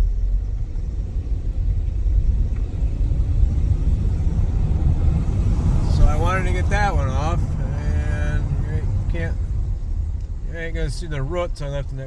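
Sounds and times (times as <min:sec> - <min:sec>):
road noise inside car: 0:00.0 - 0:12.0
vehicle engine rumble: 0:00.0 - 0:12.0.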